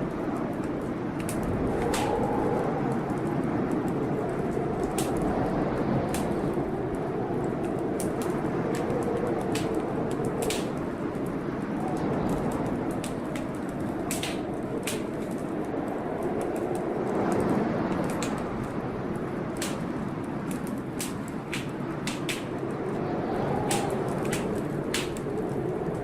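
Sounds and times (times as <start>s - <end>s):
rushing storm noise: 0.0s - 26.0s
wood fire crackling and popping: 0.0s - 26.0s.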